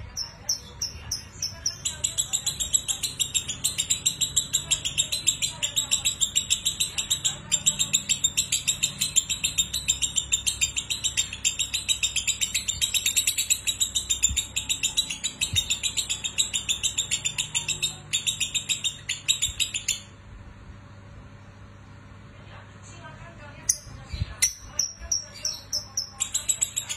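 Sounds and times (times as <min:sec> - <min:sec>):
lovebird chattering trill: 0:00.0 - 0:20.2, 0:23.7 - 0:26.9.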